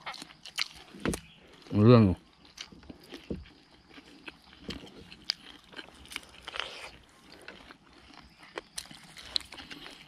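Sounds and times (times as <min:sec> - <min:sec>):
chewing crunches: 0:00.0 - 0:10.0.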